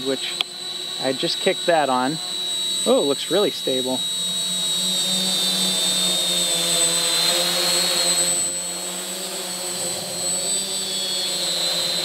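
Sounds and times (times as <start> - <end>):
propellers buzzing: 0.0 - 12.0
quadcopter motors whining: 0.0 - 12.0.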